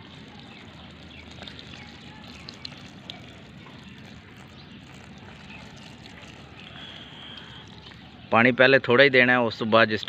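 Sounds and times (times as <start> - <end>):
water trickling onto soil: 0.0 - 8.4.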